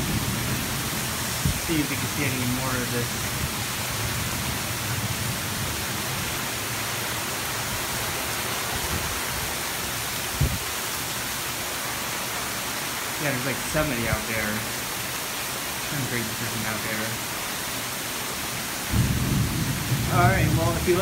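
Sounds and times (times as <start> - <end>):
heavy rain splashing on pavement: 0.0 - 21.0.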